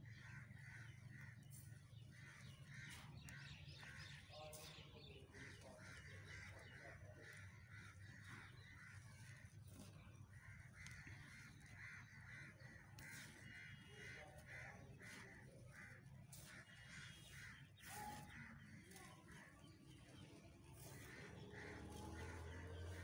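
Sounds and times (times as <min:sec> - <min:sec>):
bird calling: 0:02.2 - 0:23.0.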